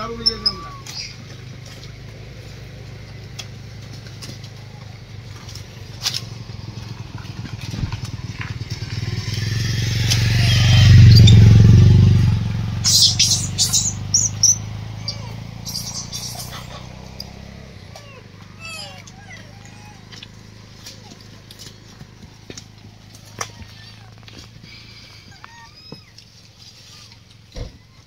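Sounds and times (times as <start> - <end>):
motorcycle passing by: 0.0 - 28.0.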